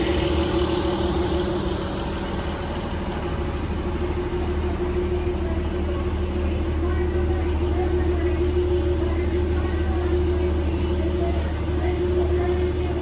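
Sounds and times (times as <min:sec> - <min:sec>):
train engine running: 0:00.0 - 0:13.0.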